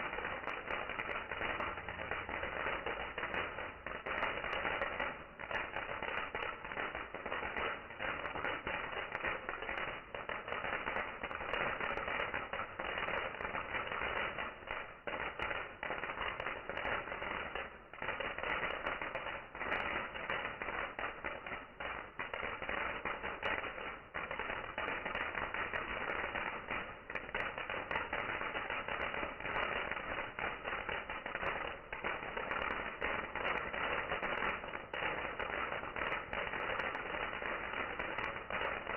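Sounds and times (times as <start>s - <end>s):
bonfire crackling: 0.0s - 22.6s, 23.2s - 38.9s.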